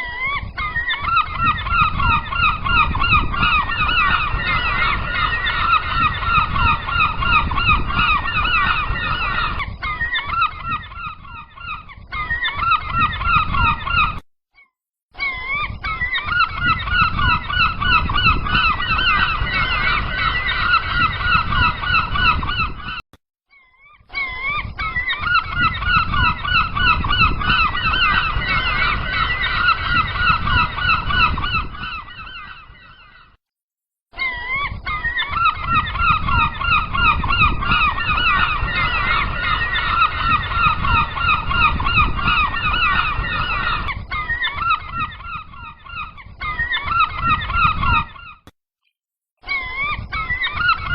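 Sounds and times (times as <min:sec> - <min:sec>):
gulls calling: 0:00.0 - 0:14.2, 0:15.2 - 0:23.0, 0:23.6 - 0:33.4, 0:34.2 - 0:48.5, 0:49.4 - 0:50.9.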